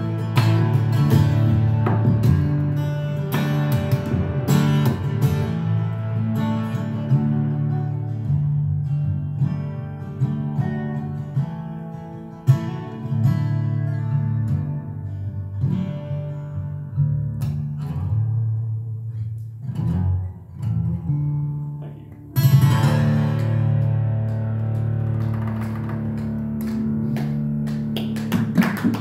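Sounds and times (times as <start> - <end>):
fingerstyle acoustic guitar: 0.0 - 29.0.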